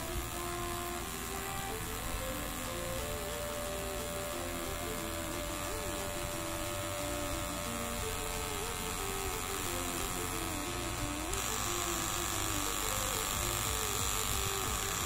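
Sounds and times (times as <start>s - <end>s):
small motor spinning propeller whir: 0.0s - 15.0s.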